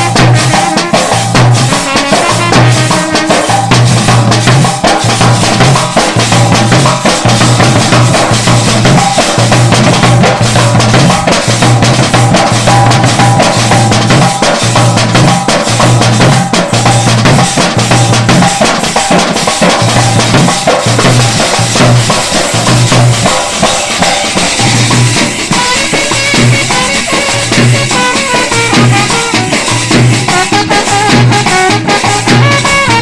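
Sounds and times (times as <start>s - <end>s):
drums pounding: 0.0s - 33.0s
street band playing: 0.0s - 33.0s.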